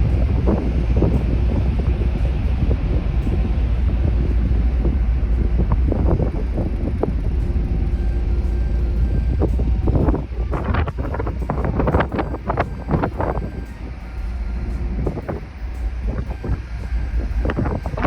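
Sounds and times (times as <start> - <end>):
car ferry engine rumble: 0.0 - 18.0
wind buffeting microphone: 0.0 - 18.0.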